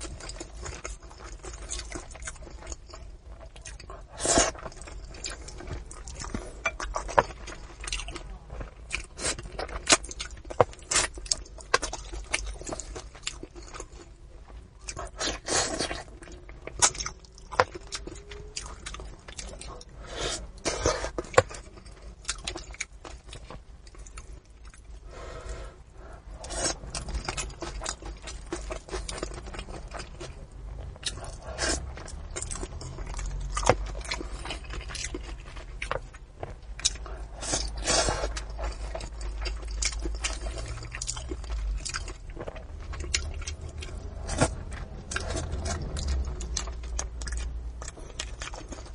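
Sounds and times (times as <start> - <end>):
chewing and smacking: 0.0 - 25.0, 26.2 - 48.9.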